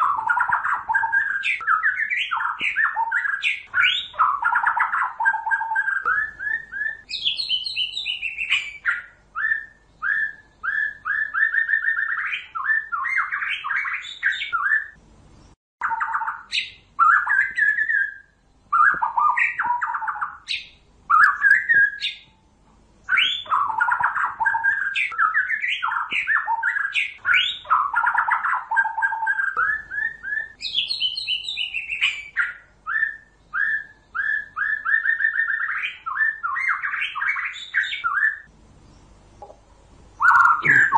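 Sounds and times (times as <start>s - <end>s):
bird singing whistled phrases: 0.0s - 15.0s, 15.8s - 22.4s, 23.0s - 38.5s, 40.2s - 40.9s.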